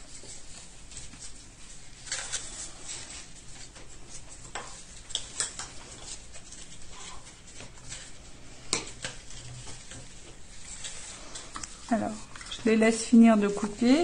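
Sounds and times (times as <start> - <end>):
paper rustling: 0.0 - 14.0
paper scraping: 0.0 - 14.0.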